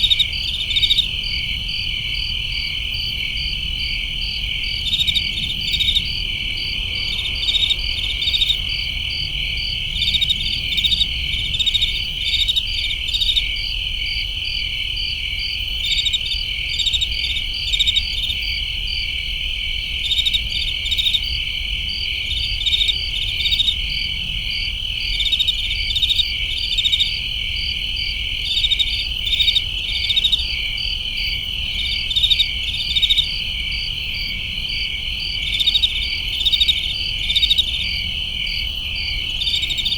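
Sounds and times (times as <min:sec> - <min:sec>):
crickets trilling: 0:00.0 - 0:39.9
pulsed cricket chirps: 0:00.0 - 0:39.9.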